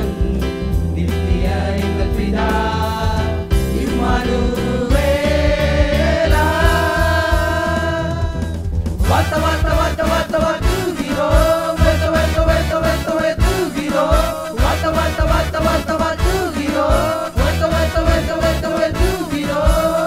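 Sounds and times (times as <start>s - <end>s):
men singing in harmony: 0.0s - 20.0s
accompaniment with low pulse: 3.3s - 20.0s.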